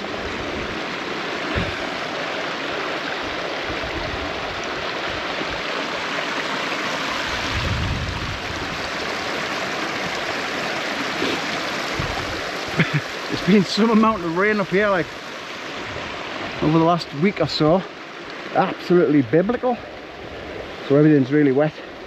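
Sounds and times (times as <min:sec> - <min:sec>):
stream splashing over rocks: 0:00.0 - 0:22.0.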